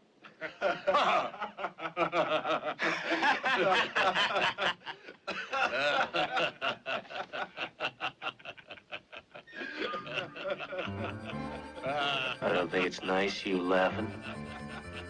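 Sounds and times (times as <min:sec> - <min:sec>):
men laughing: 0:00.2 - 0:15.0.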